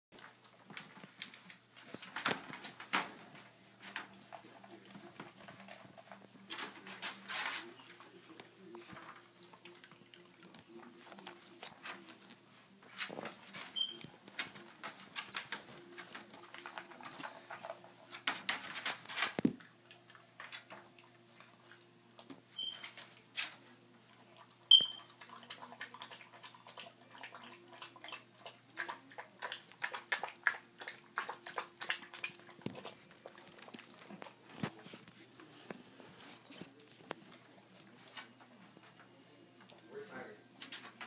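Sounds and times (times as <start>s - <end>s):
dog crunching dry food: 0.2s - 39.0s.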